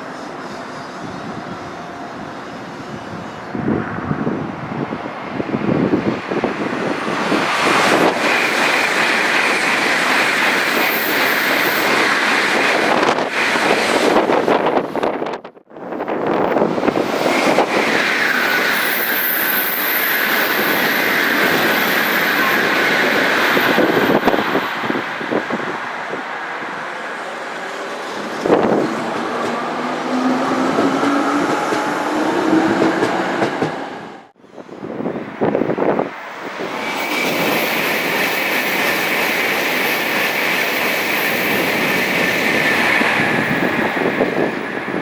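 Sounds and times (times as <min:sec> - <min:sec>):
bullet train passing at speed: 0:00.0 - 0:45.0.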